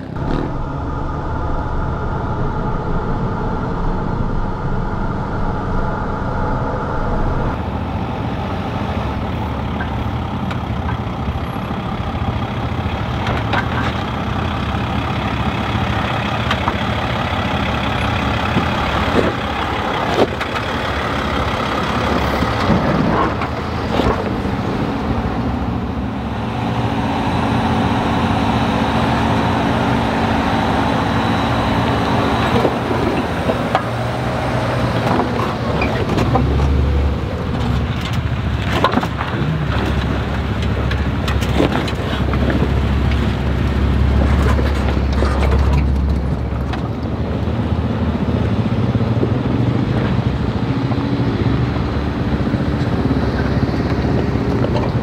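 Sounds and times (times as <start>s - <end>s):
vehicle engines at low revs: 0.0s - 55.0s.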